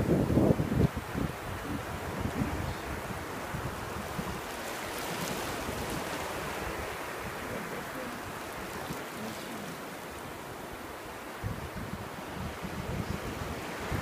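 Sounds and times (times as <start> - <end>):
surf washing over sand: 0.0 - 14.0.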